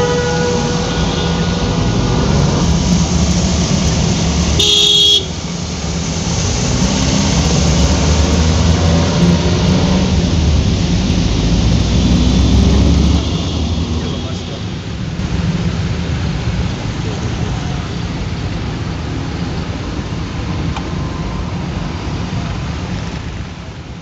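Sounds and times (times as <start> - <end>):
traffic rumble on wet roads: 0.0 - 24.0.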